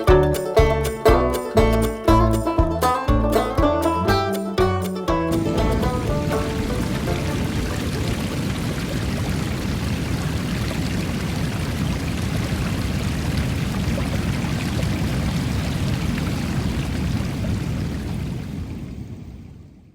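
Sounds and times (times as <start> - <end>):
water rushing: 0.0 - 18.8.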